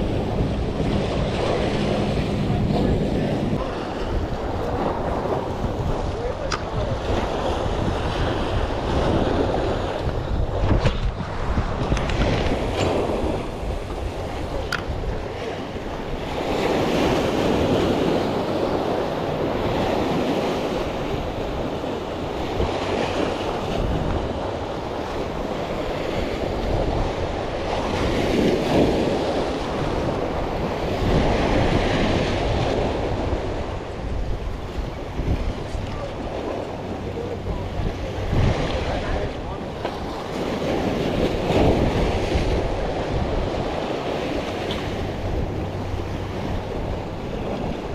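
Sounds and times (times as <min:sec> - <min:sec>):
sea waves washing against rocks: 0:00.0 - 0:47.9
wind buffeting microphone: 0:00.0 - 0:47.9.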